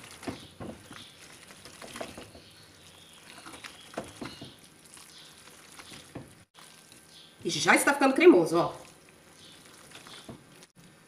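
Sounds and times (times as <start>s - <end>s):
wet stirring of spaghetti: 0.0s - 7.4s, 8.7s - 10.8s.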